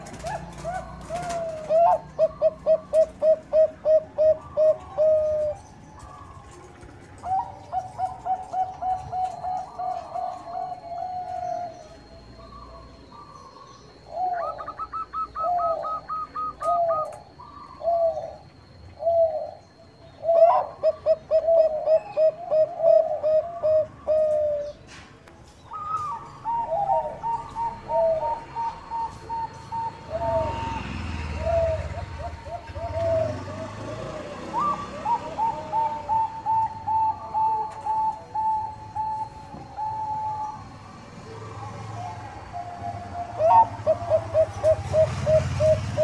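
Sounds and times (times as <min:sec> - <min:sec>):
higher-pitched bird calling: 0:00.0 - 0:06.6, 0:07.2 - 0:24.8, 0:25.6 - 0:46.0
doves cooing: 0:00.0 - 0:46.0.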